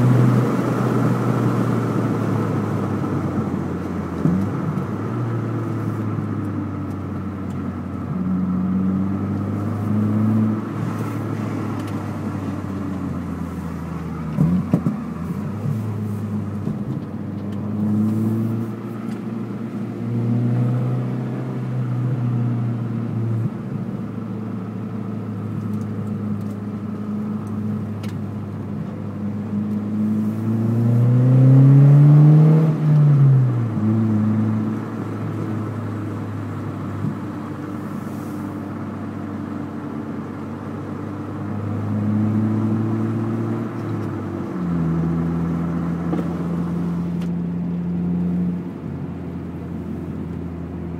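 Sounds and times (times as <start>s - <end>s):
car engine revving: 0.0s - 39.1s, 40.6s - 50.9s.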